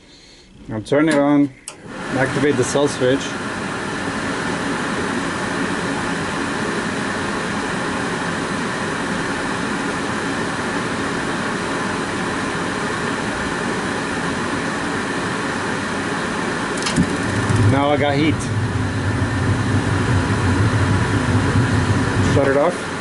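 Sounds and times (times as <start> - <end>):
furnace blower fan running: 0.0 - 23.0.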